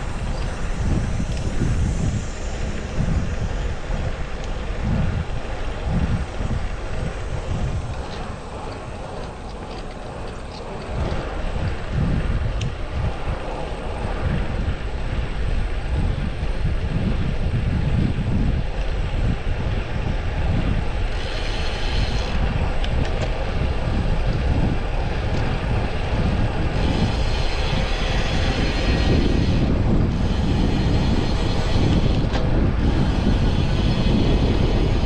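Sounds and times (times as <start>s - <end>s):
road noise rushing: 0.0s - 35.0s
wind buffeting microphone: 0.0s - 35.0s.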